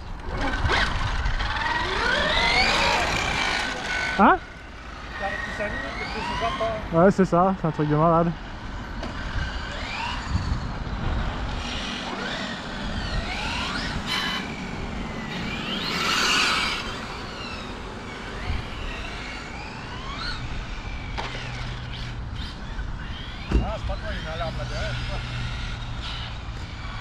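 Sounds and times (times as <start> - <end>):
model car motors whining: 0.0 - 27.0.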